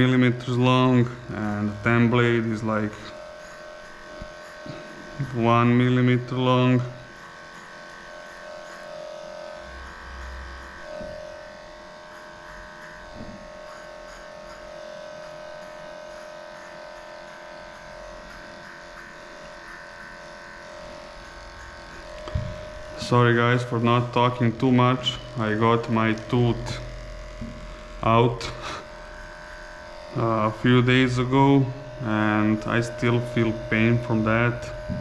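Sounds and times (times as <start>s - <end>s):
electric clippers buzzing: 0.0s - 35.0s.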